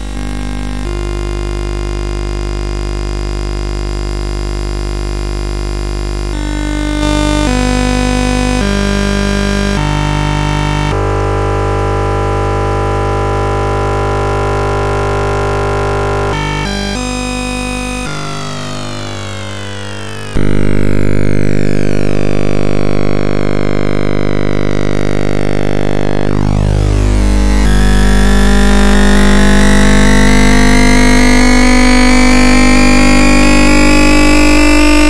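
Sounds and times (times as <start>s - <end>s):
buzzing synthesized tone: 0.0s - 35.0s.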